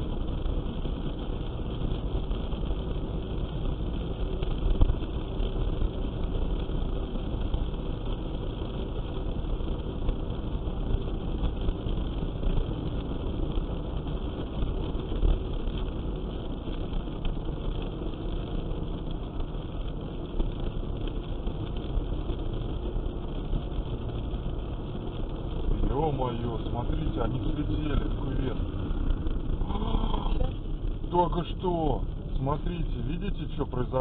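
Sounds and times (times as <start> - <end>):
car engine hum: 0.0 - 34.0
tyre noise on snowy road: 0.0 - 34.0.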